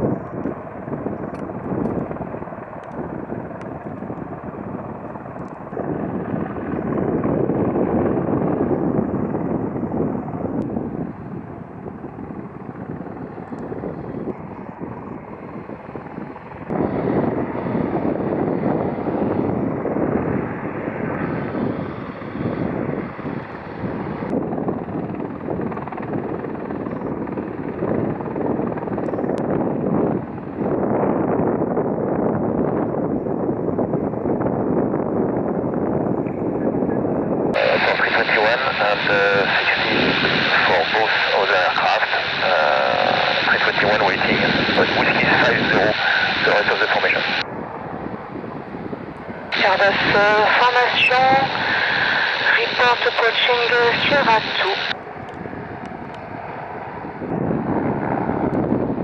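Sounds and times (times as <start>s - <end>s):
jet engines rushing: 0.0s - 31.2s, 36.4s - 59.0s.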